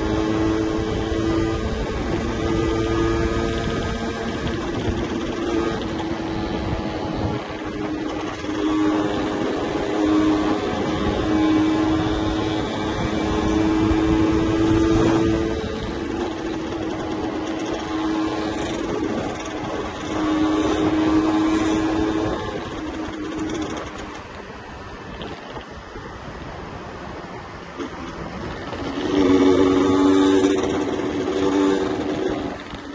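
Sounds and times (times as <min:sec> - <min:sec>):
two-stroke motorcycle engine: 0:00.0 - 0:25.8, 0:27.6 - 0:32.9.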